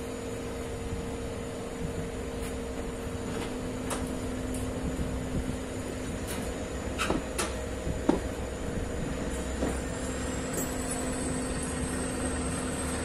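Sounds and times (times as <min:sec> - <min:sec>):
train coach hum and rumble: 0:00.0 - 0:13.0.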